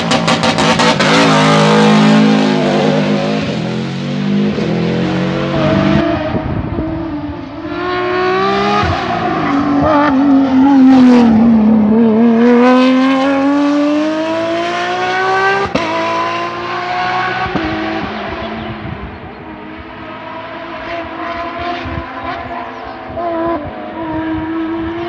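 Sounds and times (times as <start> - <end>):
rally car engine: 0.0 - 25.0.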